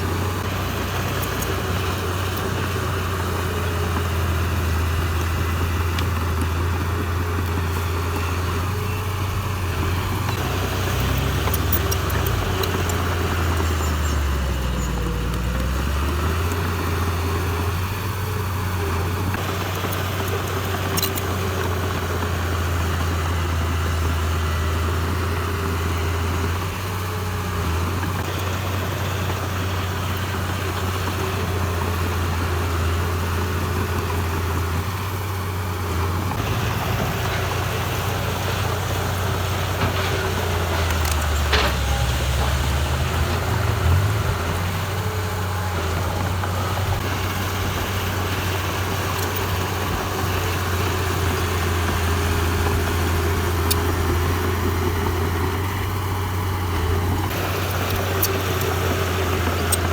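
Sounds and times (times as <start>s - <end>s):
heavy diesel engine droning: 0.0s - 59.9s.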